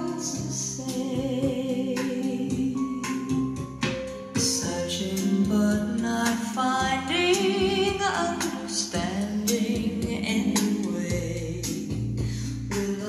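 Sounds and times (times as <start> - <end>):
song through a speaker: 0.0 - 13.0.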